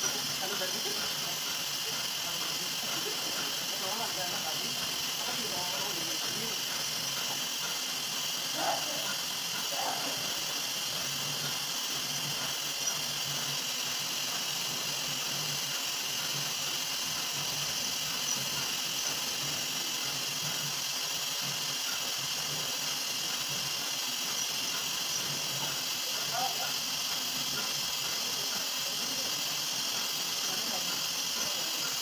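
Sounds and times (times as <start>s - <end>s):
milling machine hiss: 0.0s - 32.0s.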